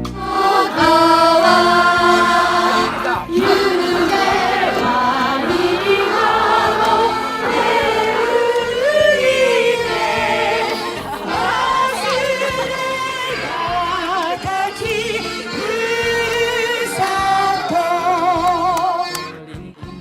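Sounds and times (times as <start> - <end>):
instrumental accompaniment: 0.0 - 20.0
sung voices with vibrato: 0.0 - 20.0.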